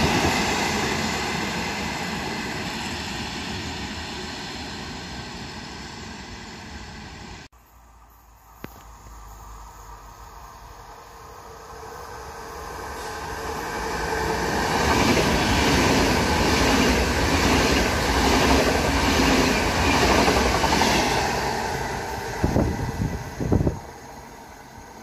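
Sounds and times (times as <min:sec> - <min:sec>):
train passing on track: 0:00.0 - 0:25.0.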